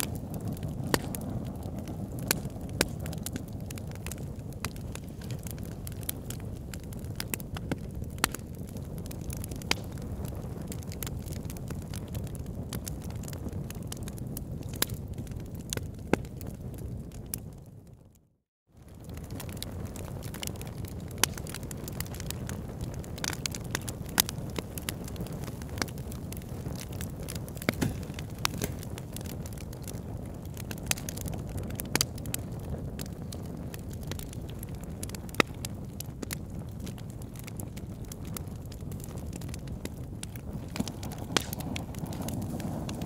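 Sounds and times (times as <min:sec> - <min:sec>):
wood fire crackling and popping: 0:00.0 - 0:18.2, 0:18.8 - 0:43.0.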